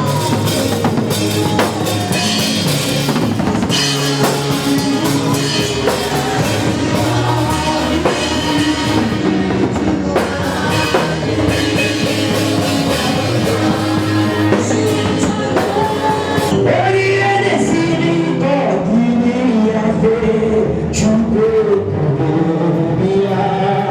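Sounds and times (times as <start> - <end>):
gospel band with drum kit: 0.0 - 23.9
person singing: 0.0 - 23.9.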